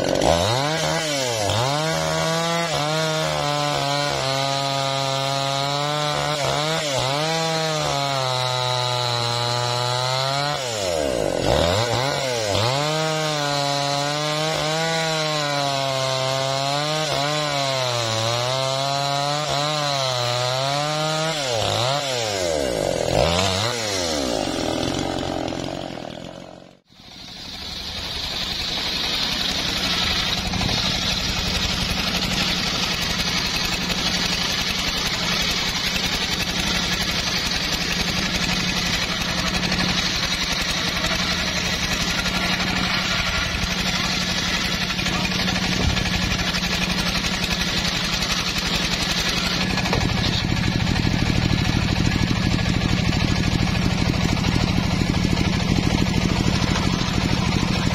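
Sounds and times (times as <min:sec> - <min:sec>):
chainsaw running: 0:00.0 - 0:57.9
circular saw ripping a log: 0:00.0 - 0:57.9.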